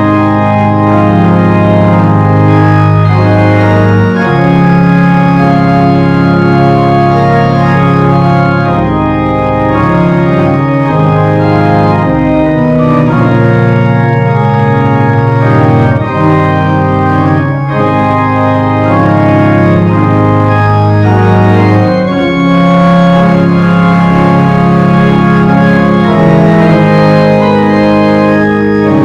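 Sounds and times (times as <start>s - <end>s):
organ chords: 0.0s - 29.0s.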